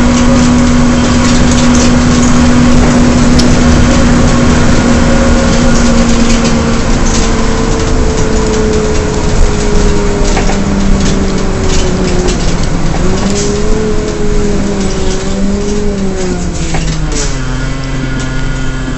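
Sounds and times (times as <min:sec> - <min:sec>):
bus drivetrain howl: 0:00.0 - 0:18.9
engine and road noise: 0:00.0 - 0:18.9.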